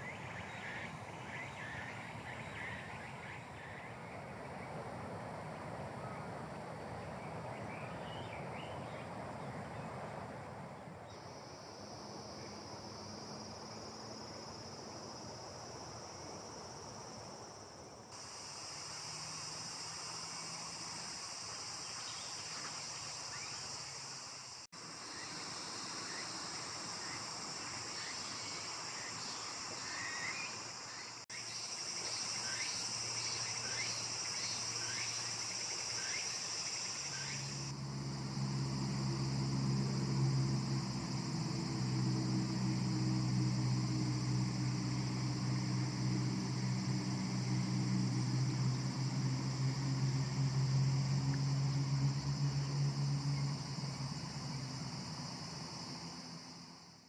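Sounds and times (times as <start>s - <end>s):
insects trilling: 0.0s - 5.0s, 11.0s - 57.0s.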